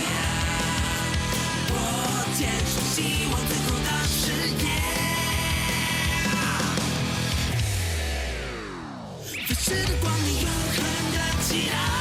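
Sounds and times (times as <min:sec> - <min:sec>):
rock theme music: 0:00.0 - 0:12.0.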